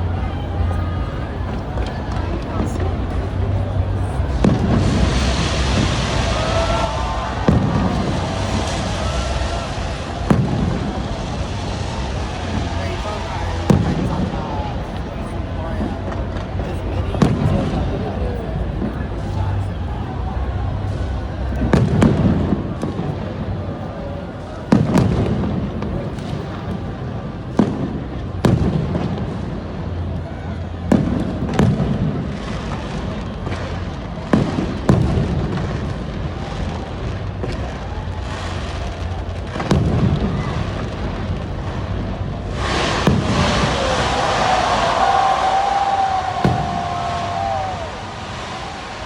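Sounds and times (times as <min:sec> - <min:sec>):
firework bangs: 0:00.0 - 0:49.0
fireworks crackling and fizzing: 0:00.0 - 0:49.0.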